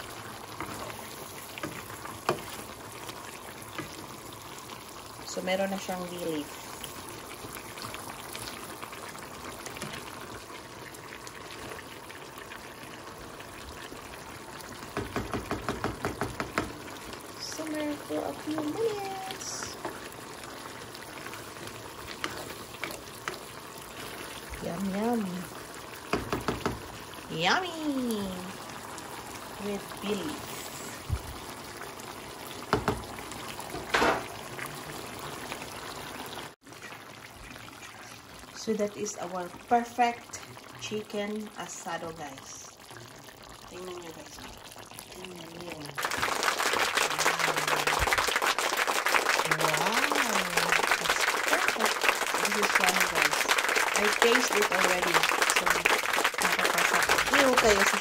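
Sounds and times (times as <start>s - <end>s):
sauce bubbling and popping: 0.0s - 58.0s.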